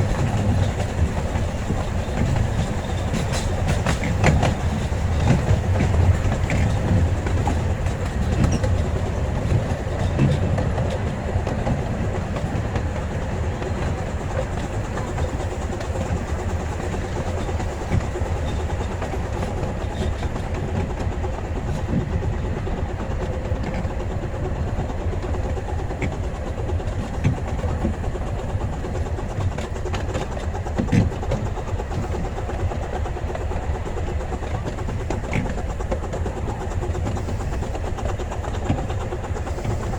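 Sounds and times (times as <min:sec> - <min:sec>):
clicks over rail joints: 0:00.0 - 0:39.9
train wheels rumbling on track: 0:00.0 - 0:39.9.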